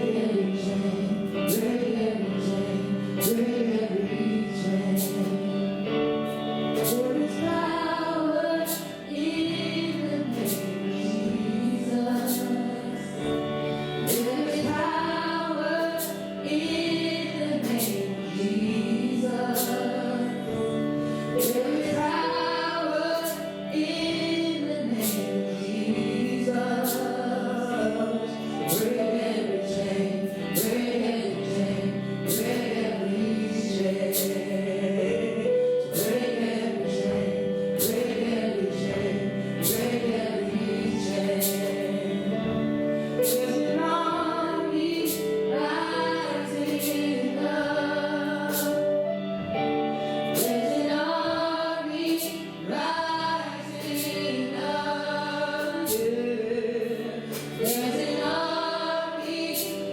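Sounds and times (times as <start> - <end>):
band accompaniment with steady beat: 0.0 - 59.9
choir singing gospel worship song: 0.0 - 59.9.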